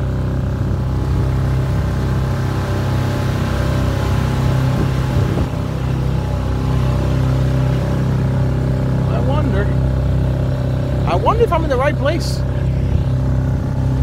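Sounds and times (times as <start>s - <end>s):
small outboard motor running: 0.0s - 14.0s.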